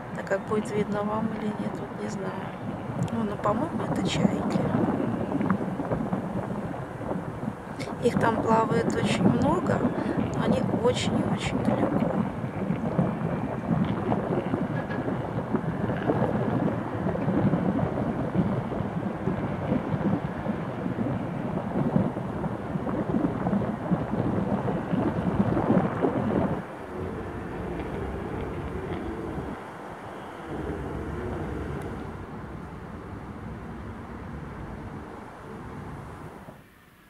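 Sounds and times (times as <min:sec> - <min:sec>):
wind rushing over microphone: 0:00.0 - 0:36.7.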